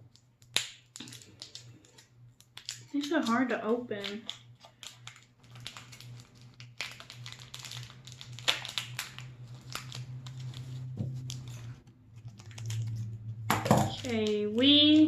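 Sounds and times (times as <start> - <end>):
plastic bag crinkling: 0.8 - 15.0.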